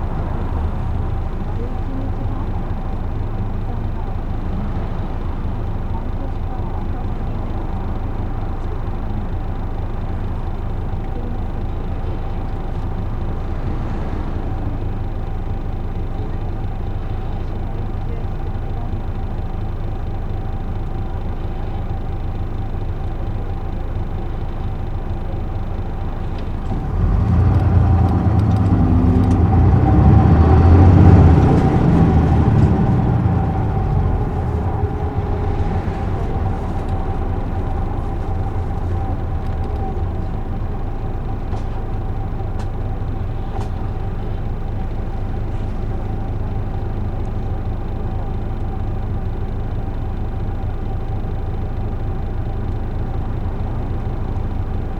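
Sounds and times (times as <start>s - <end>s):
bus diesel engine rumble: 0.0s - 54.9s
faint engine whine: 0.0s - 54.9s.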